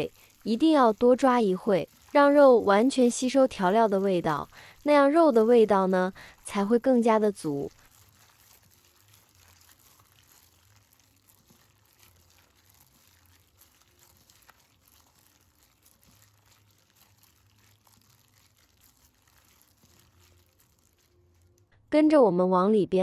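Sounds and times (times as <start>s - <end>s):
hands kneading wet meat: 0.0s - 21.7s.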